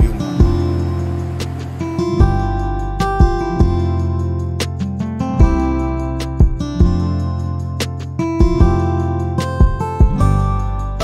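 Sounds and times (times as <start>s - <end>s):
low bass notes: 0.0s - 11.0s
strummed acoustic guitar: 0.0s - 11.0s.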